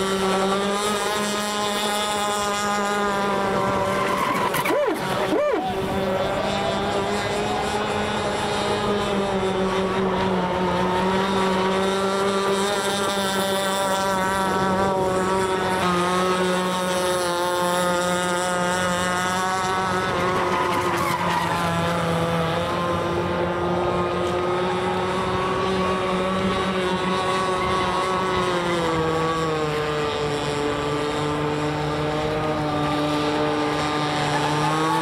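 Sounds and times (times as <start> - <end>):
model boat motor whine: 0.0 - 35.0.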